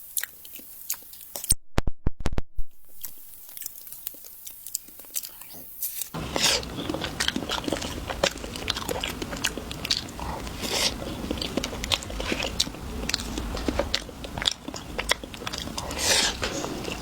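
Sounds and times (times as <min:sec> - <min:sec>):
chewing crunchy chocolate: 0:00.0 - 0:01.6, 0:02.9 - 0:17.0.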